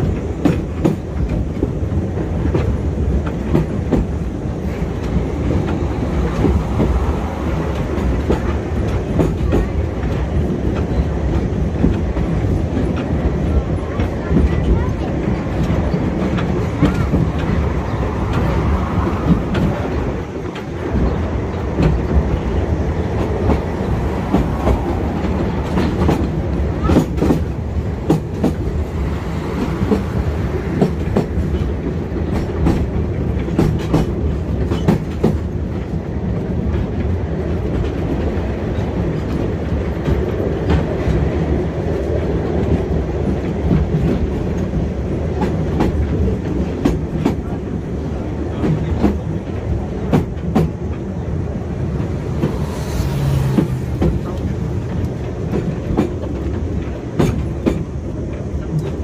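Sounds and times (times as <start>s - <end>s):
rail car rumbling: 0.0s - 59.0s
wheels clacking over rail joints: 0.0s - 59.0s.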